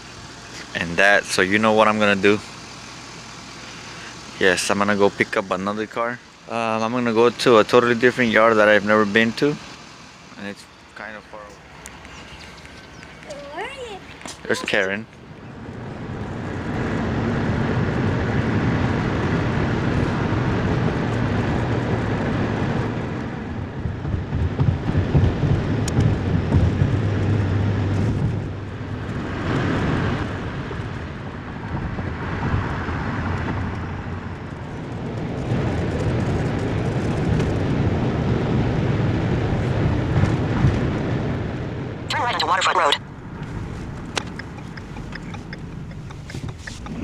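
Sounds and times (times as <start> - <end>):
road rumble: 0.0 - 47.0
truck engine hum: 0.0 - 47.0.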